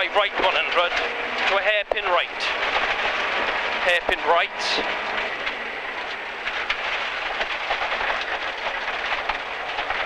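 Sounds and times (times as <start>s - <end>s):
car engine: 0.0s - 10.0s
gravel clattering against car: 0.0s - 10.0s
tyre and road noise: 0.0s - 10.0s.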